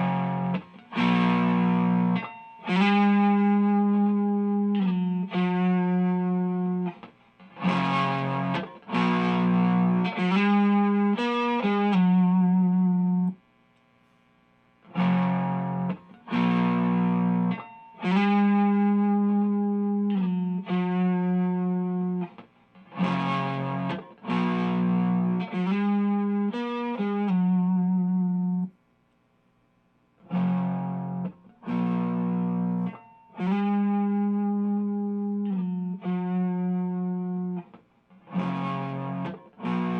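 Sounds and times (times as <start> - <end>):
overdriven electric guitar: 0.0 - 13.4, 14.8 - 28.7, 30.2 - 39.9.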